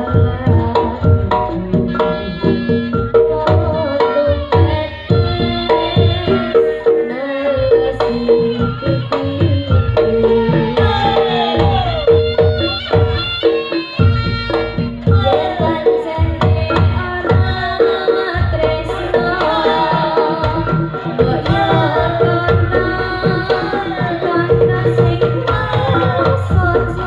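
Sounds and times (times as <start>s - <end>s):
bending melodic line: 0.0s - 27.0s
hand drums playing busy strokes: 0.0s - 27.0s.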